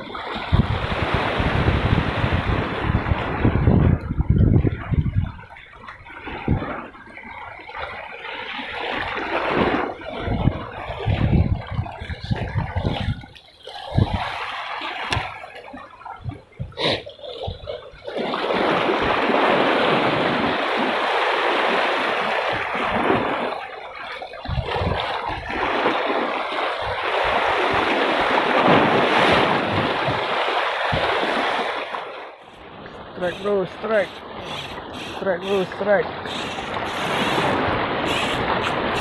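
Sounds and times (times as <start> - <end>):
surf splashing against rocks: 0.0 - 39.0.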